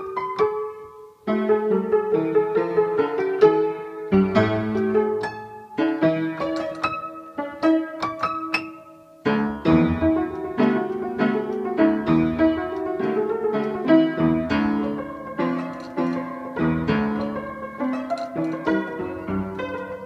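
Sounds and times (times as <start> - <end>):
upright piano playing: 0.0 - 20.0.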